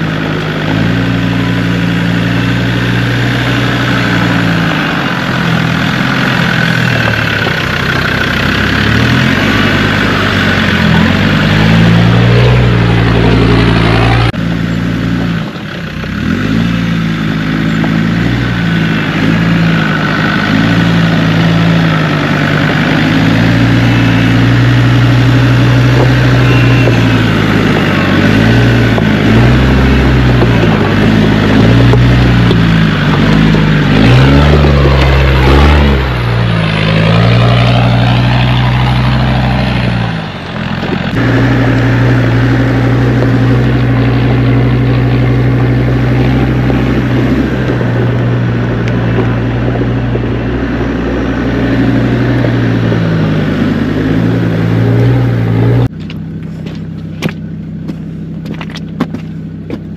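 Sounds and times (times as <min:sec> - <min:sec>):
diesel engine working at low speed: 0:00.0 - 0:59.9.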